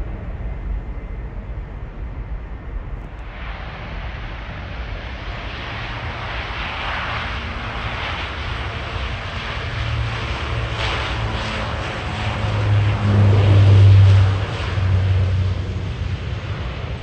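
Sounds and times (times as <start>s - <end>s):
turboprop engines humming: 0.0s - 17.0s.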